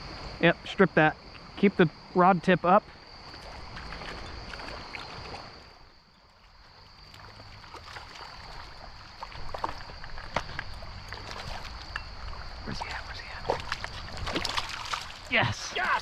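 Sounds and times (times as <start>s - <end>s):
crickets chirring: 0.0s - 16.0s
water sloshing and splashing: 3.0s - 16.0s.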